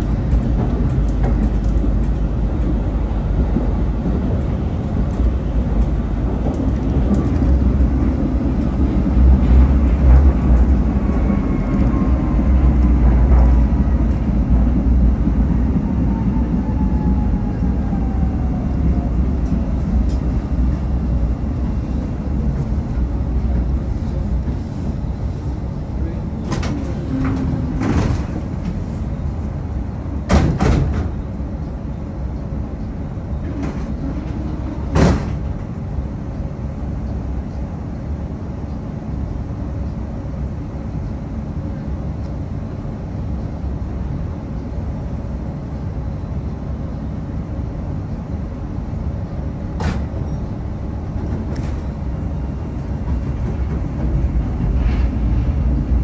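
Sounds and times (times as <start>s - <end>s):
tram interior hum: 0.0s - 56.0s.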